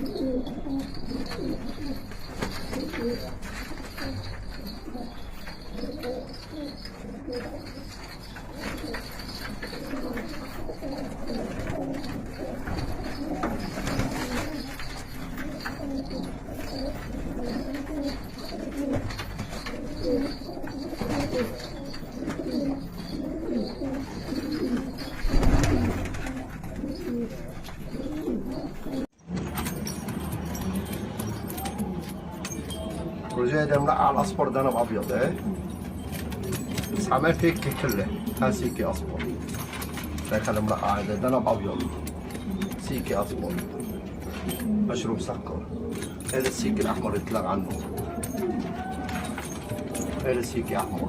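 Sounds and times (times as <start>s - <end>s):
pigeons cooing: 0.0s - 51.0s.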